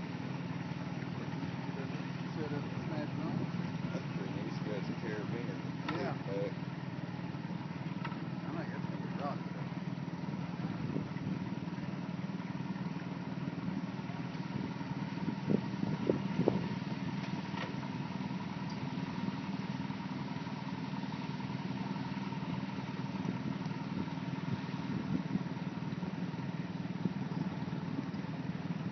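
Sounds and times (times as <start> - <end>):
engine idling: 0.0 - 28.9.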